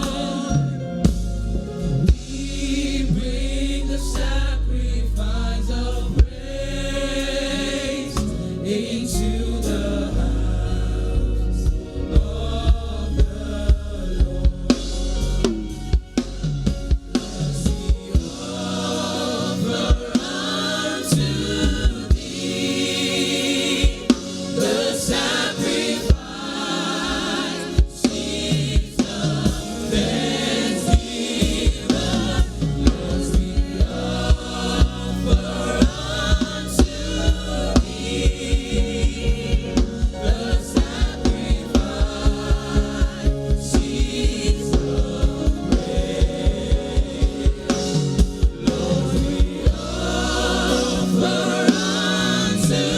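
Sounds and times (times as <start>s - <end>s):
voices singing together: 0.0s - 16.0s, 16.6s - 52.9s
bass guitar: 0.0s - 52.9s
drum kit: 0.0s - 52.9s
fast low beat: 10.1s - 52.9s.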